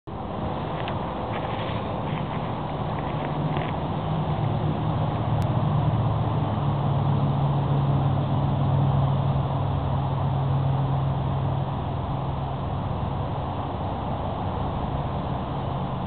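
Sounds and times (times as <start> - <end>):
low engine drone: 0.0 - 16.0
rushing noise: 0.1 - 16.0.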